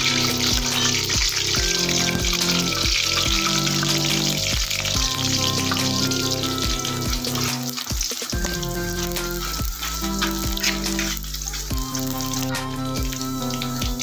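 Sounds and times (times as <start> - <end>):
background music sustained notes: 0.0 - 14.0
shallots sizzling in hot oil: 0.0 - 14.0.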